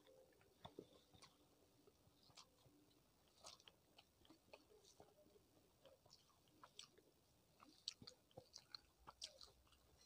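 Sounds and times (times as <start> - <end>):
fingers mixing food on plate: 0.0 - 10.0
wet chewing clicks: 0.0 - 10.0.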